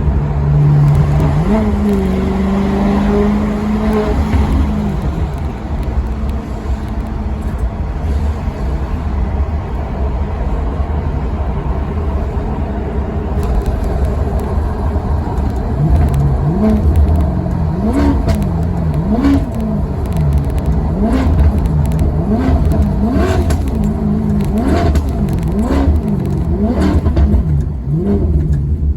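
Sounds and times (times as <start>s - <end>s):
car engine revving: 0.0s - 28.9s
exhaust pops: 0.1s - 8.5s, 13.3s - 28.9s.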